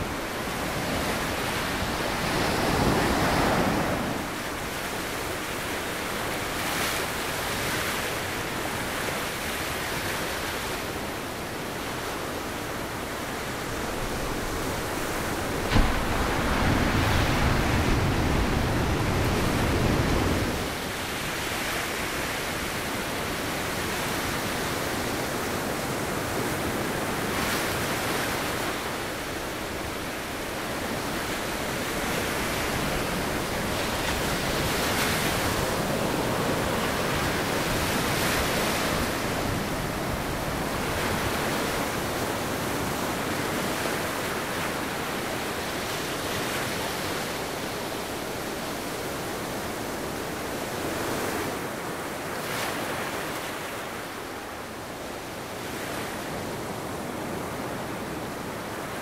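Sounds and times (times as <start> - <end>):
surf breaking and washing ashore: 0.0 - 59.0.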